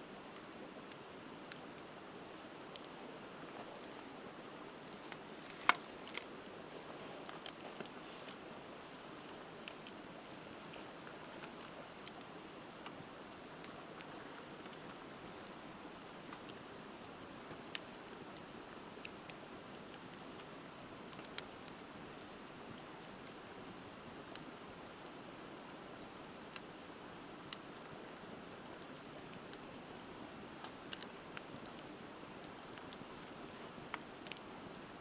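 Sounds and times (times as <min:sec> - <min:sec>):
river flowing: 0:00.0 - 0:35.0
bonfire crackling and popping: 0:00.1 - 0:35.0.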